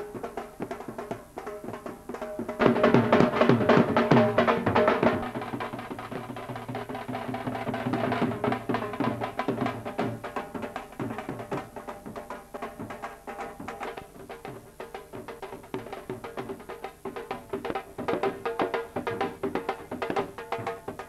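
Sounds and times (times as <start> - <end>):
drum beaten fast: 0.0 - 21.0.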